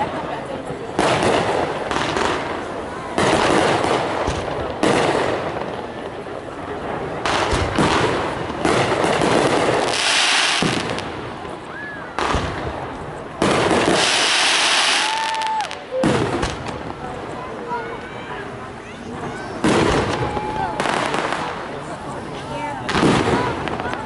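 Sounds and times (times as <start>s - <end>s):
crackling firework stars hissing: 0.0s - 24.0s
firework shells booming: 0.9s - 17.3s, 19.6s - 21.8s, 22.9s - 24.0s.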